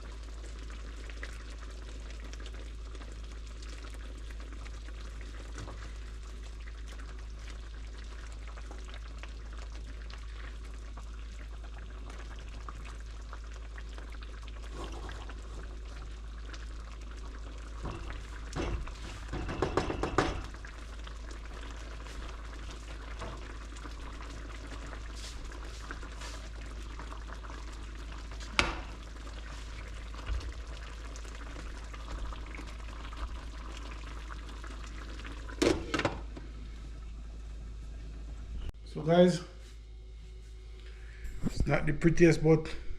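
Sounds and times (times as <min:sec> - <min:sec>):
food sizzling: 0:00.0 - 0:38.8.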